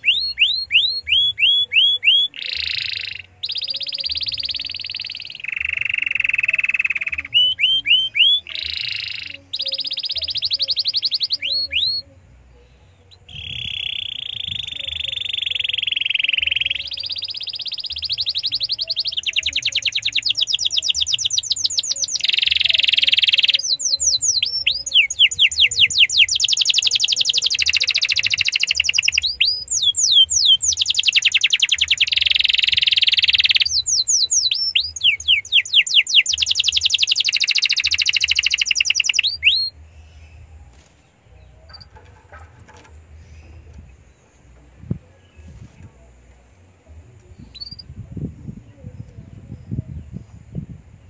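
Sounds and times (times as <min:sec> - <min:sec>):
canary singing trills and whistles: 0:00.0 - 0:42.5, 0:47.1 - 0:48.0.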